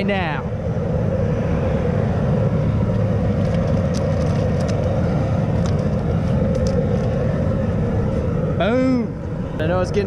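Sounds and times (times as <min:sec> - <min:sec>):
gas burner rushing: 0:00.0 - 0:10.0.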